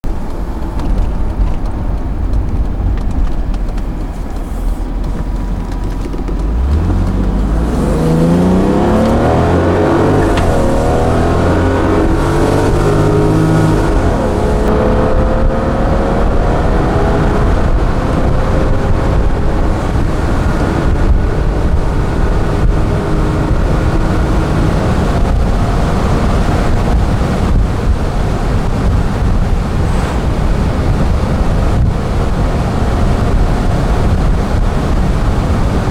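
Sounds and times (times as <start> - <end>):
car engine accelerating: 0.0 - 35.9
wind and road rumble: 0.0 - 35.9.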